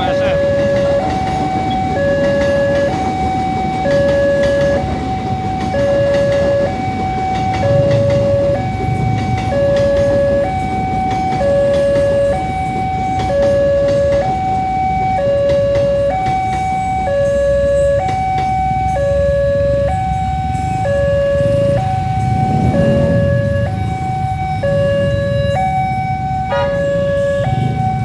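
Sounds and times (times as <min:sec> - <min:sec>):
electric train rumbling past: 0:00.0 - 0:28.0
level-crossing two-tone alarm: 0:00.0 - 0:28.0.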